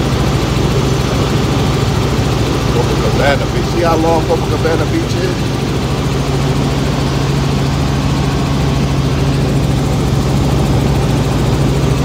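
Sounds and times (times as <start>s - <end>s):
helicopter cabin drone: 0.0s - 12.0s.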